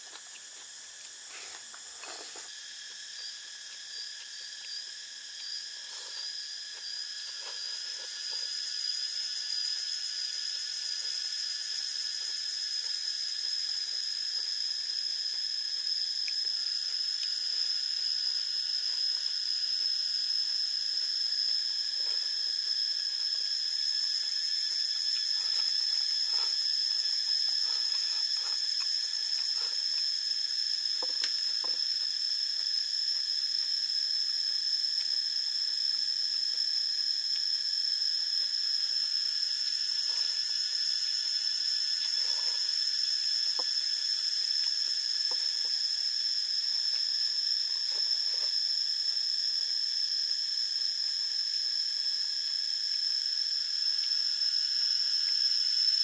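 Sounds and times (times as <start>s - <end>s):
insect chorus whining: 0.0s - 56.0s.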